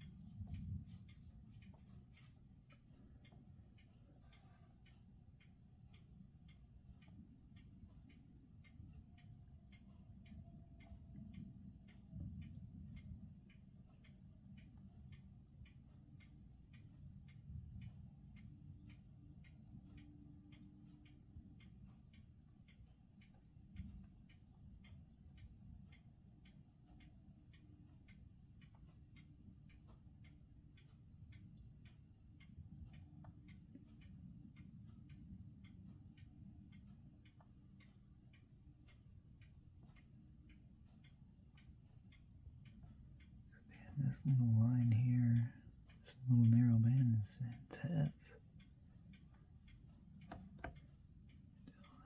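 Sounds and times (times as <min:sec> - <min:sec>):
faint even ticking: 0:00.0 - 0:52.0.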